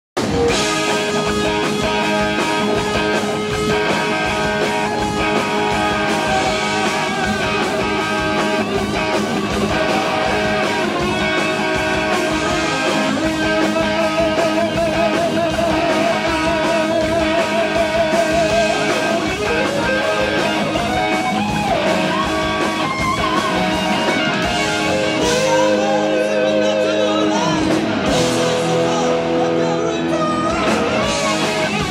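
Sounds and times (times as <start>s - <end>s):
lead electric guitar bends: 0.2s - 31.9s
live rock band playing: 0.2s - 31.9s.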